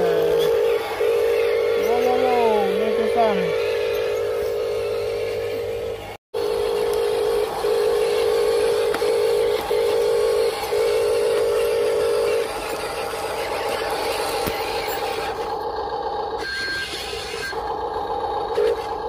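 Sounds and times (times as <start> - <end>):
toy truck motor whine: 0.0 - 19.0.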